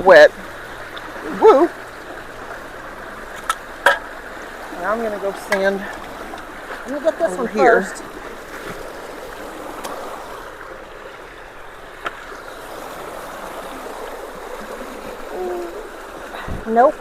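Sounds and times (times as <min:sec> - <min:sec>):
water rushing through culverts: 0:00.0 - 0:17.0.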